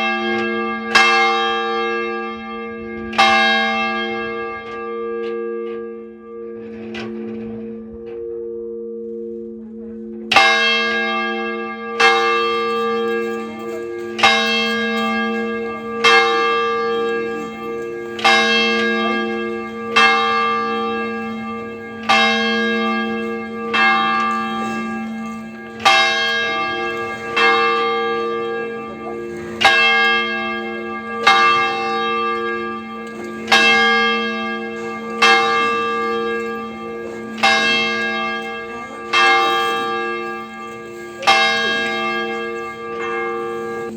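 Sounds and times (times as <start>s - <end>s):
church bell tolling: 0.0s - 43.9s.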